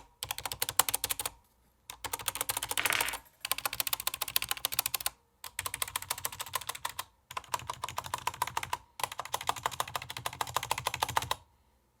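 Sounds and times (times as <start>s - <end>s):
mechanical keyboard typing: 0.0s - 11.4s.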